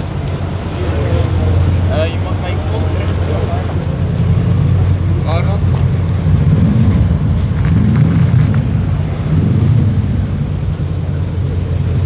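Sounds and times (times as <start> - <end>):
car engine burbling: 0.0 - 12.0.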